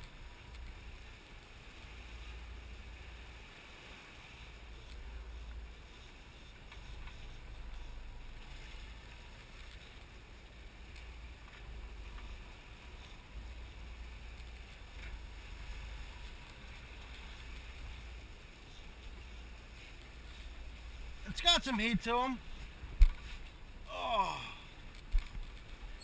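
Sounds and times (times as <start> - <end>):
boat engine and churning wake: 0.0 - 26.0.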